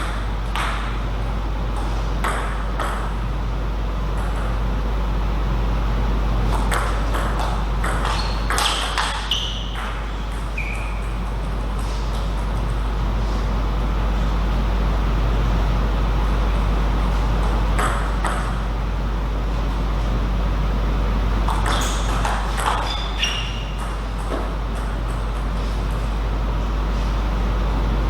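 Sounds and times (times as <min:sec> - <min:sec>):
hall hiss and low hum: 0:00.0 - 0:28.0.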